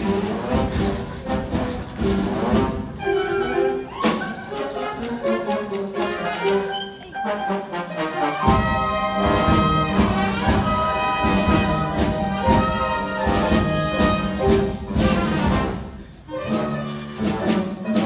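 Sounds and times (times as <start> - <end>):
orchestral music with brass: 0.0 - 18.0.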